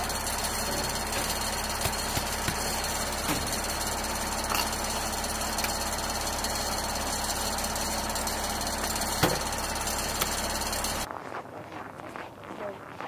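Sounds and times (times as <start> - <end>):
engine noise with high whine: 0.0 - 11.1.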